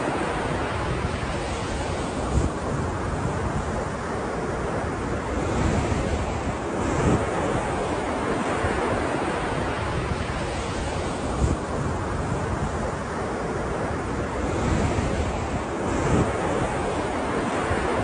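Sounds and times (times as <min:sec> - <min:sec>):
waves breaking on shore: 0:00.0 - 0:18.0
wind buffeting microphone: 0:00.0 - 0:18.0.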